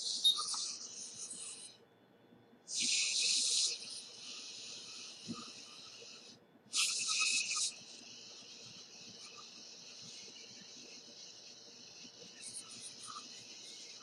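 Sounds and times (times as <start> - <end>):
hissing of soldering rework: 2.7 - 14.0.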